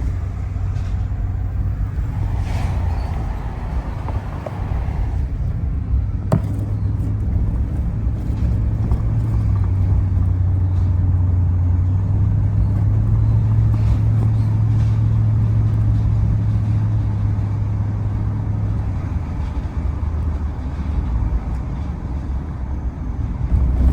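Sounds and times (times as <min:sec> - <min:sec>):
vehicle engine and road noise: 0:00.0 - 0:23.9.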